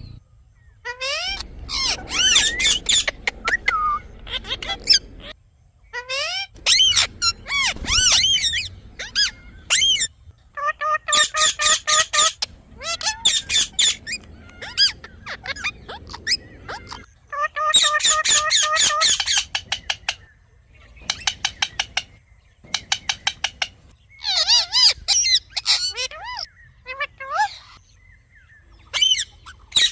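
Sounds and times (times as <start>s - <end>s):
parrot squawking: 0.8s - 20.2s, 21.1s - 27.8s, 28.9s - 29.9s.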